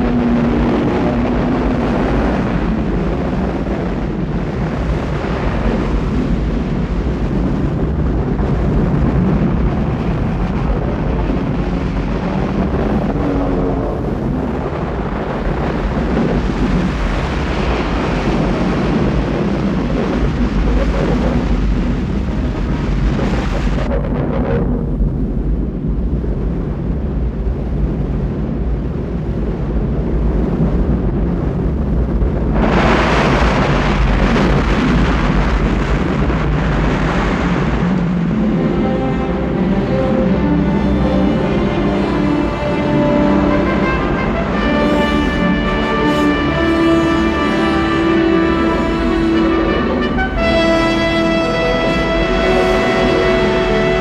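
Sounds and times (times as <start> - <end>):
rushing churning water: 0.0 - 24.0, 30.3 - 54.0
deep underwater rumbling: 0.0 - 54.0.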